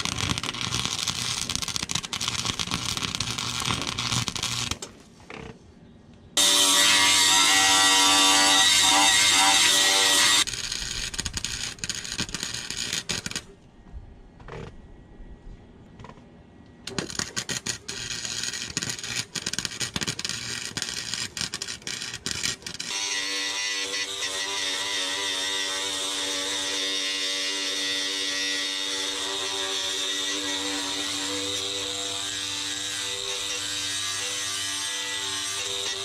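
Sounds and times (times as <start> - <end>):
welding arc crackling: 0.0 - 4.9, 6.4 - 13.5, 16.9 - 36.0.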